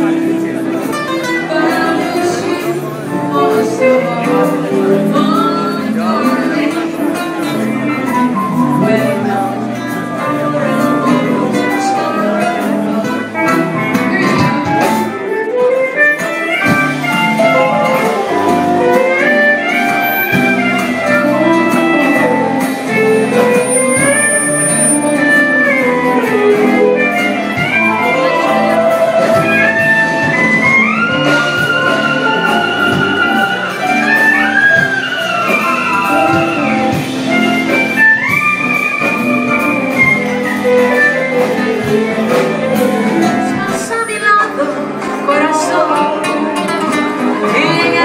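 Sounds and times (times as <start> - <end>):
live band playing instrumental: 0.0 - 48.0.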